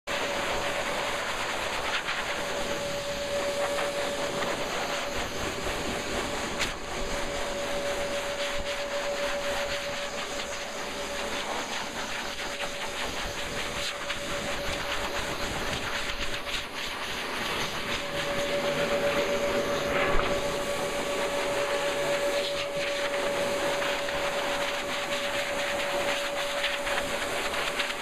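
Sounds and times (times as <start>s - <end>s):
dryer blowing air: 0.1s - 28.0s
motor whine: 2.4s - 27.9s.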